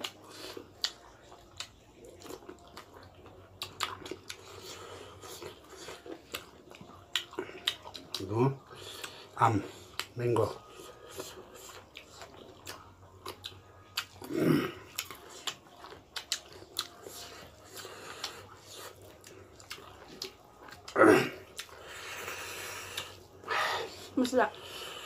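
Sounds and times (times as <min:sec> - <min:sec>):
people chewing: 0:00.0 - 0:25.0.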